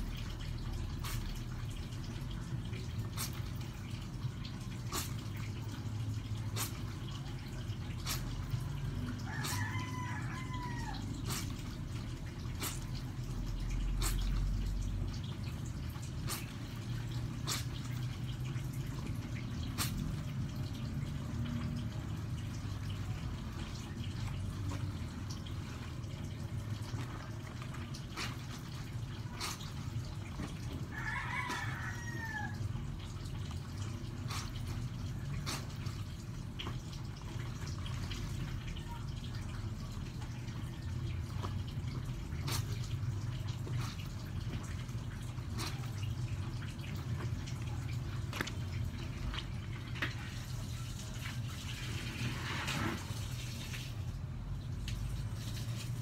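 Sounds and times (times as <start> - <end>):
wet cloth scrubbed and wrung: 0.0 - 54.2, 54.9 - 56.0
water splashing and dripping: 0.0 - 56.0.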